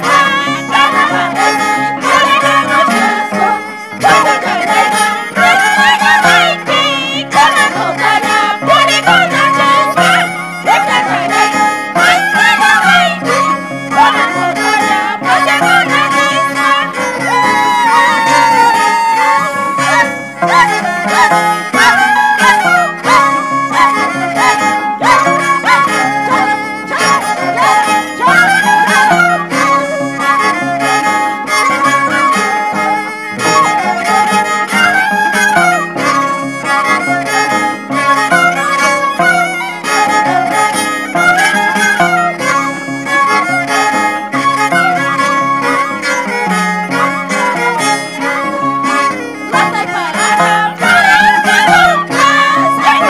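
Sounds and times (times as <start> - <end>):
plucked string accompaniment: 0.0 - 53.0
violin melody: 0.0 - 53.0.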